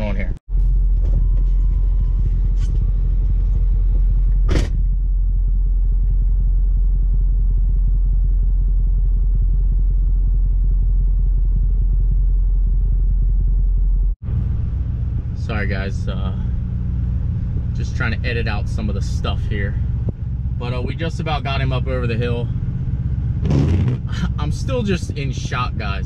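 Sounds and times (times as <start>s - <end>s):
diesel engine idling: 0.1s - 26.0s.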